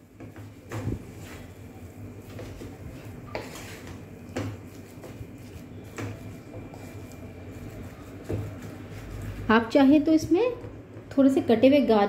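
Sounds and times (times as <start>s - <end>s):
spatula scraping mashed potato: 0.2s - 10.0s.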